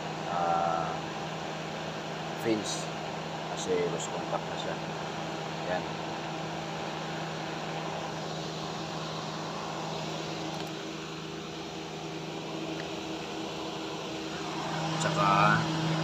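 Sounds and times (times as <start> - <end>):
car engine idling with fan running: 0.0 - 16.0.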